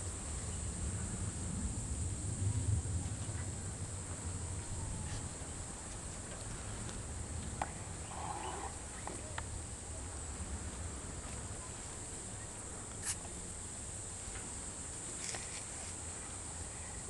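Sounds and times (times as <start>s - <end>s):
high hiss: 0.0s - 17.0s
wind rumble on microphone: 0.0s - 17.0s.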